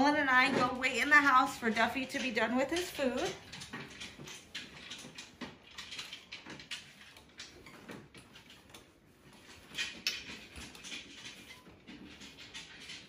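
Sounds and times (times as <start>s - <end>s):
wheelchair rolling over tile: 0.0s - 13.0s.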